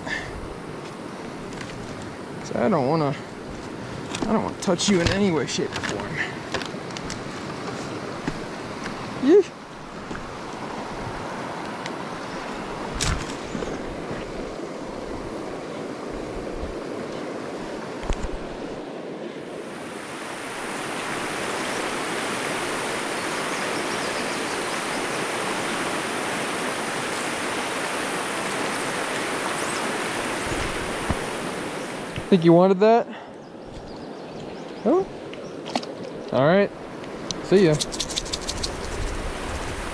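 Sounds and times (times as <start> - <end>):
river current rushing: 0.0 - 33.6, 34.5 - 39.9.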